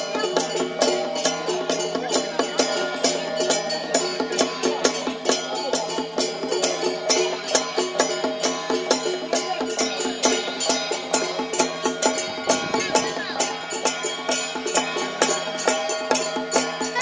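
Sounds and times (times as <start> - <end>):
percussion beat: 0.0 - 17.0.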